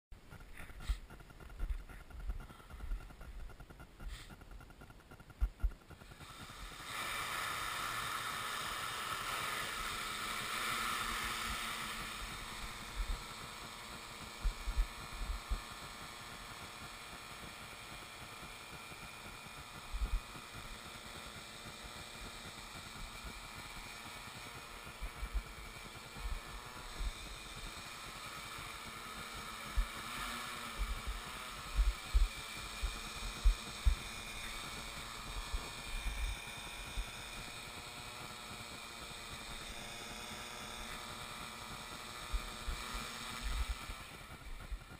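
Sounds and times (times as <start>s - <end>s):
drone motors and propellers whirring: 0.2s - 44.9s.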